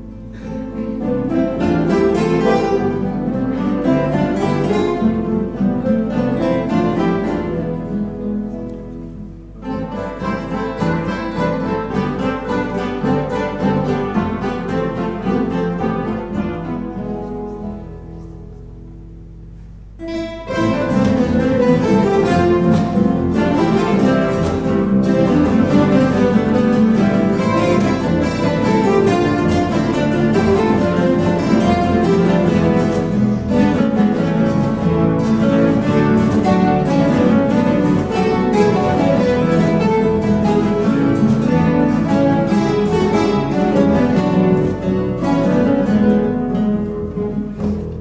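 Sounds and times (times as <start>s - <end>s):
classical guitars playing together: 0.0s - 48.0s.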